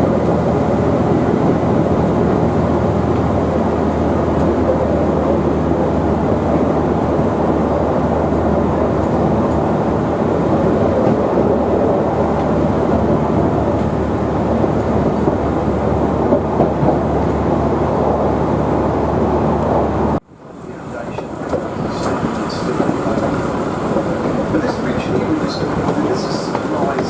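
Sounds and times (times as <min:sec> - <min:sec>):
diesel rail motor droning: 0:00.0 - 0:27.0
train wheels on rails: 0:00.0 - 0:27.0.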